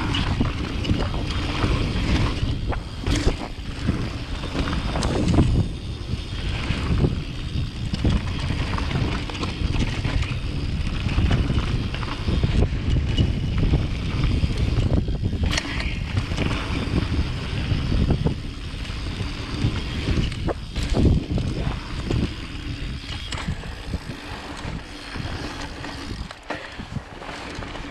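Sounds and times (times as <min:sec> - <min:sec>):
bike rumbling on dirt trail: 0:00.0 - 0:27.9
wind buffeting microphone: 0:00.0 - 0:27.9.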